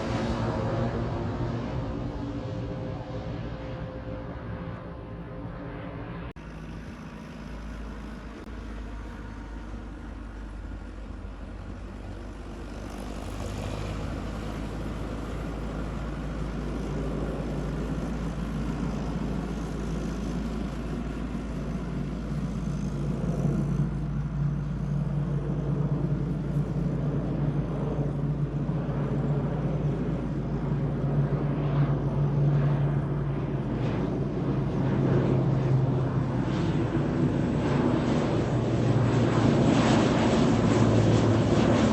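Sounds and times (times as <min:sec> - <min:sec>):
airliner engines rumbling: 0:00.0 - 0:41.9
low steady drone: 0:00.0 - 0:41.9.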